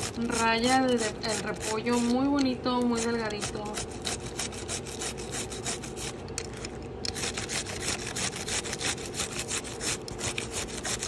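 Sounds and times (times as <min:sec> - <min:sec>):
cabbage rasping on a grater: 0:00.0 - 0:06.2, 0:07.1 - 0:11.0.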